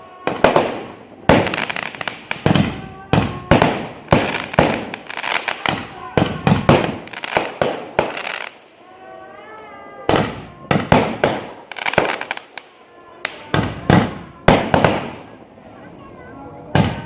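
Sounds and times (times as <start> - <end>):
firecrackers banging: 0.0 - 8.8, 9.9 - 15.8, 16.6 - 17.0.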